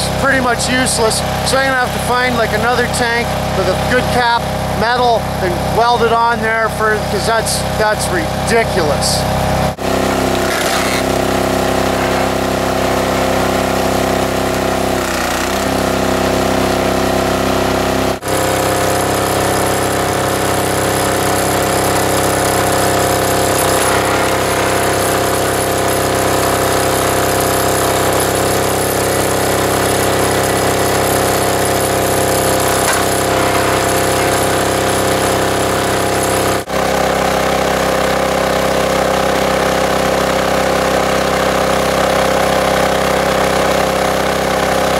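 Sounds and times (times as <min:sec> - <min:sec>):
small diesel engine running: 0:00.0 - 0:44.9.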